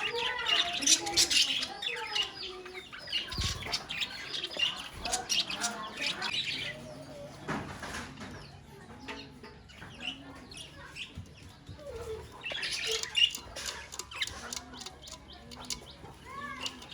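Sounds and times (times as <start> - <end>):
budgerigars chirping and warbling: 0.0 - 16.9.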